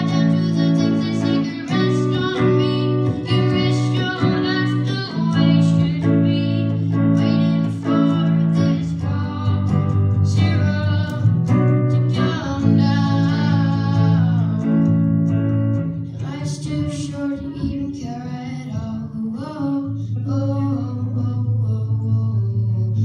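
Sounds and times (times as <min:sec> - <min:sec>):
guitar chords: 0:00.0 - 0:23.0
person singing: 0:00.0 - 0:23.0.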